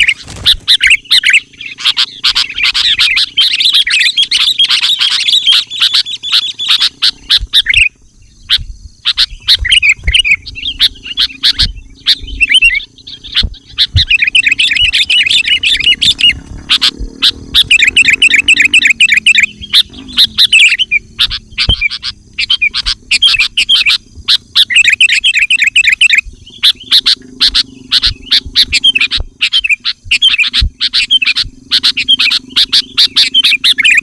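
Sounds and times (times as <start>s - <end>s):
birds chattering and calling: 0.0s - 34.0s.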